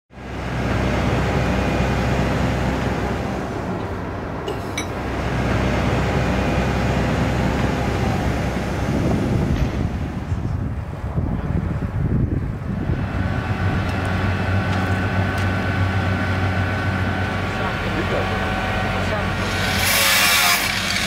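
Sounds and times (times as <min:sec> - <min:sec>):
diesel engine drone: 0:00.1 - 0:21.0.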